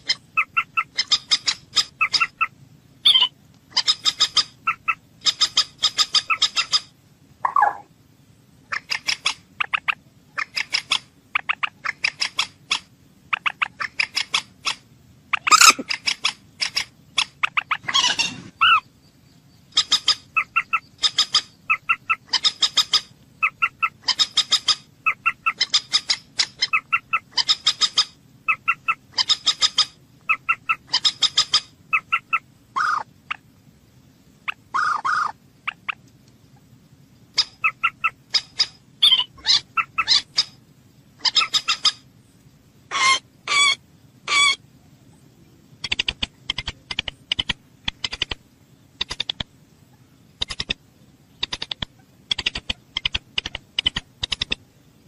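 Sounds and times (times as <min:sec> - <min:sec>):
moorhen clucking calls: 0:00.0 - 0:07.9, 0:08.6 - 0:18.9, 0:19.7 - 0:33.5, 0:34.4 - 0:36.7, 0:37.3 - 0:40.6, 0:41.2 - 0:42.1, 0:42.9 - 0:44.6, 0:45.7 - 0:54.7.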